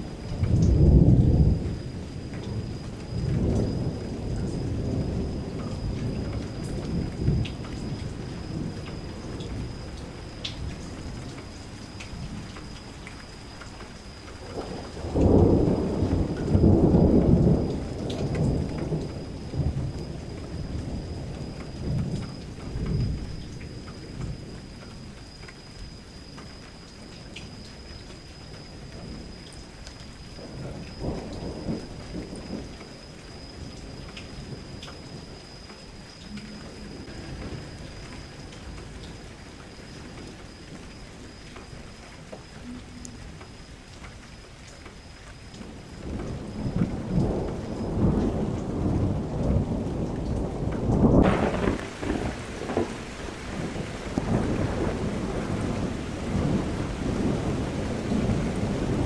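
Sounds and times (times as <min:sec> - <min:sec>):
thunder rumbling: 0:00.0 - 0:25.2, 0:30.3 - 0:44.5, 0:45.5 - 0:59.0
steady rain falling: 0:00.0 - 0:59.0.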